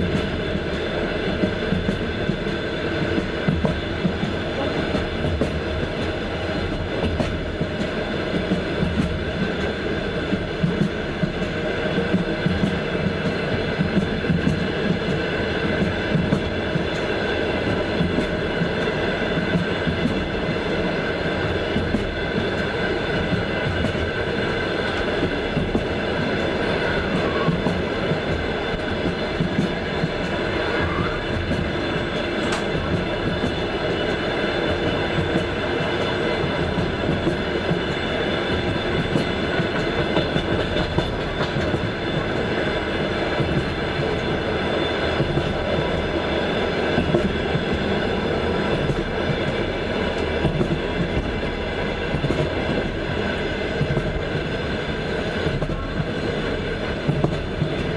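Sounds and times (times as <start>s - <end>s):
train wheels clattering over rails: 0.0s - 57.9s.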